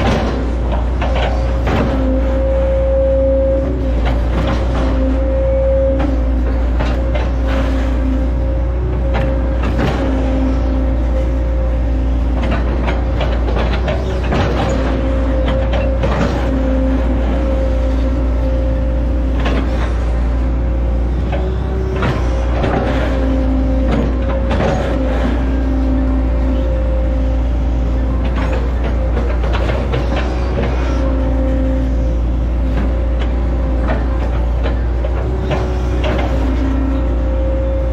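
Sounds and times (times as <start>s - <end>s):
excavator engine whine: 0.0s - 37.9s.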